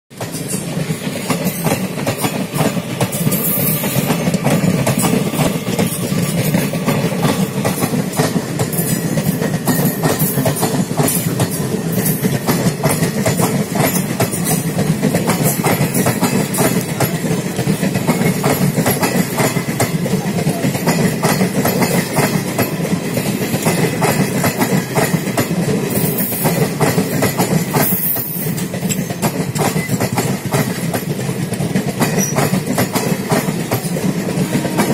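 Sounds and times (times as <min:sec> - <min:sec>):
train coaches rumbling past: 0:00.1 - 0:34.9
wheels clacking over rail joints: 0:00.1 - 0:34.9.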